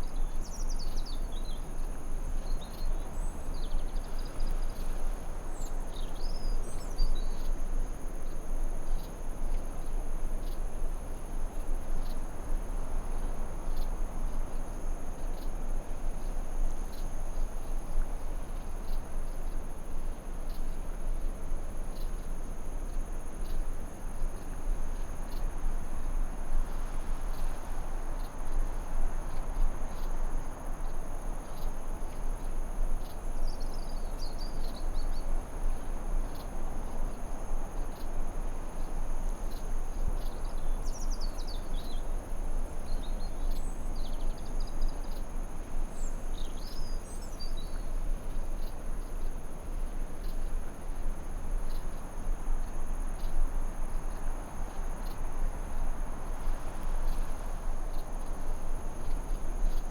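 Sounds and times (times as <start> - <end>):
insect drone: 0.0 - 59.9
white noise hiss: 0.0 - 59.9.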